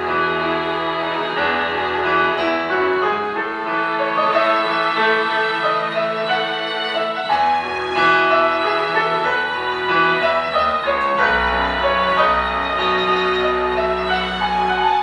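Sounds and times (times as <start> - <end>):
piano melody: 0.0 - 15.0
sustained string chords: 0.0 - 15.0.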